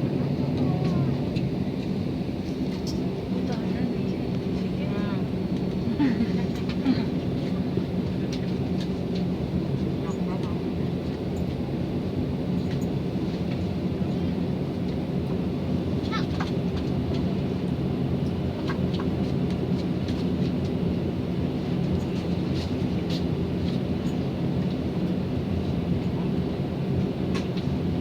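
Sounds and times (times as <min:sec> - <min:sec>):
aircraft engine droning: 0:00.0 - 0:28.0.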